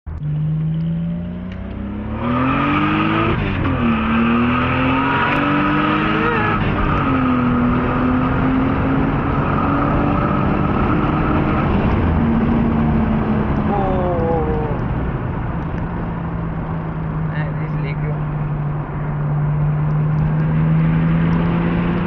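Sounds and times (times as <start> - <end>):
car engine revving through gears: 0.1 - 13.7, 15.6 - 22.0.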